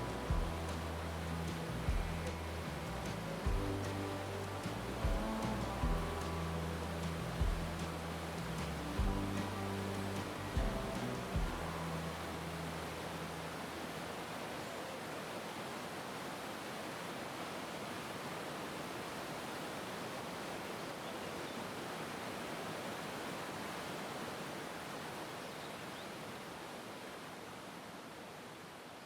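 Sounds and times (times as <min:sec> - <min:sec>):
small waterfall rushing: 0:00.0 - 0:29.0.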